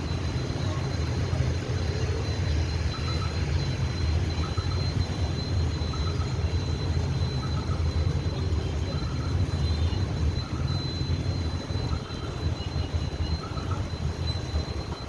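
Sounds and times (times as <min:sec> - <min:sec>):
traffic on a wet road: 0:00.0 - 0:15.0
faint double chirp: 0:00.2 - 0:15.0.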